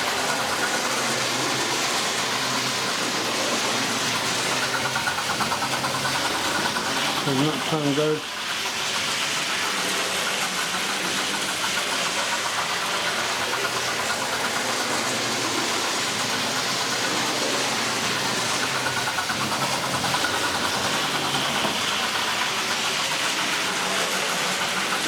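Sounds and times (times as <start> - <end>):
model train running on track: 0.0 - 25.0
simulated steam engine sounds: 0.0 - 25.0.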